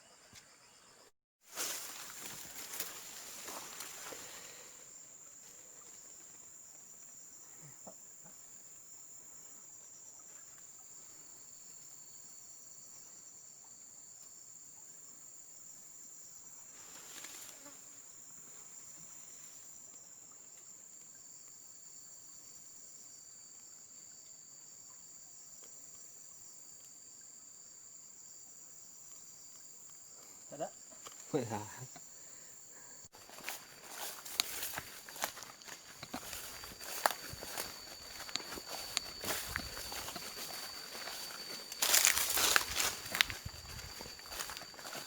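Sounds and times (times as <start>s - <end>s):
insects droning: 0.0s - 45.0s
lower insect tone: 0.0s - 45.0s.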